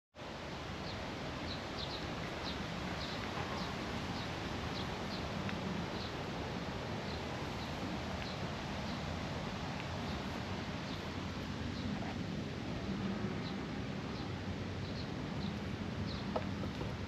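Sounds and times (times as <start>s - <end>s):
outdoor background hiss and rumble: 0.2s - 17.0s.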